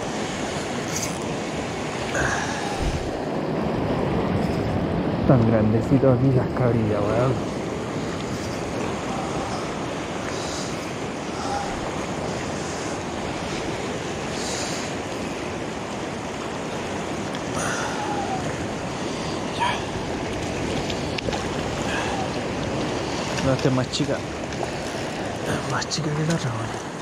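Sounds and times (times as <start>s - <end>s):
wind on microphone: 0.0s - 25.7s
surf washing over rocks: 0.0s - 27.0s.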